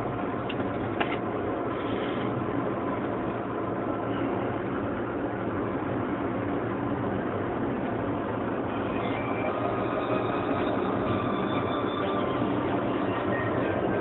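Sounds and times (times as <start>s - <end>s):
car engine and tyre road noise: 0.0s - 14.0s.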